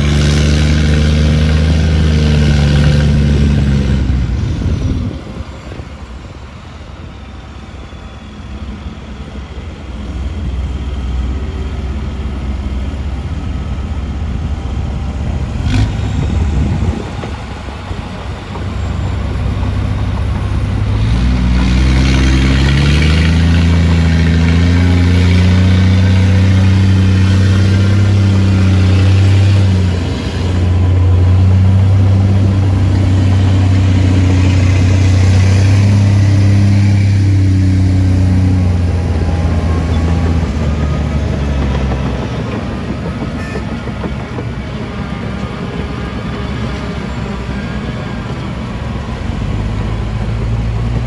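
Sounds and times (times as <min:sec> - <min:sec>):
heavy machinery diesel engine: 0:00.0 - 0:51.0.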